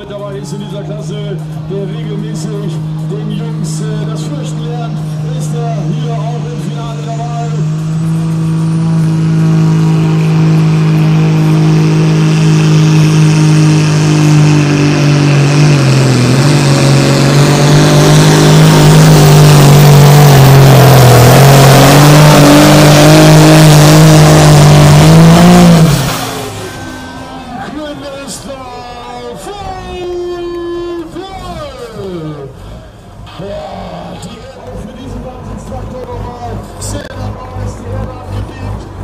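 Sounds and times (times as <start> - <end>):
diesel engine running flat out: 0.0 - 39.0
high turbo whine: 0.0 - 39.0.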